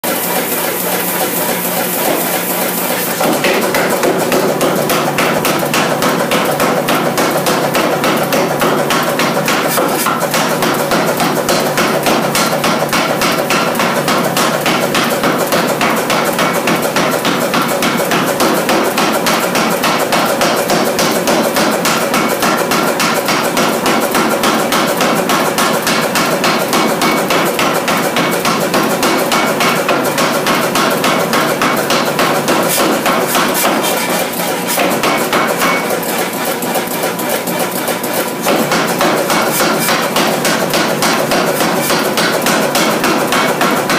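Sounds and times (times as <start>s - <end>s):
power hammer pounding steel: 0.0s - 43.9s.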